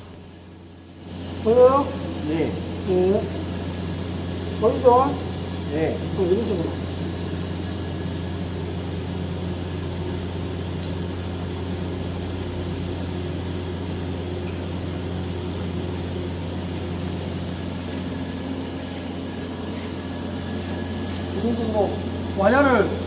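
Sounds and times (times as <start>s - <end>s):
ventilation hum: 0.0s - 23.0s
welding arc hissing: 0.0s - 23.0s
welding machine hum: 0.0s - 23.0s.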